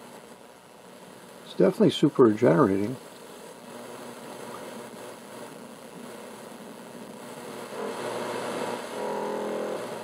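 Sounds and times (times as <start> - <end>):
radio receiver hiss: 0.0 - 10.0
received radio signal: 0.0 - 10.0.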